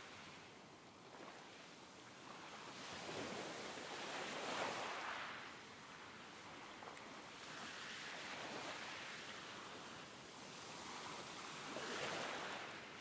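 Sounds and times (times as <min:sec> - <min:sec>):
faint ocean surf: 0:00.0 - 0:13.0.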